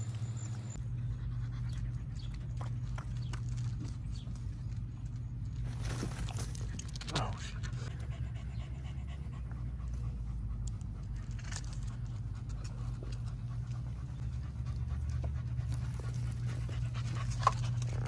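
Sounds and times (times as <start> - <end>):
dog panting: 0.0 - 4.5, 7.6 - 18.0.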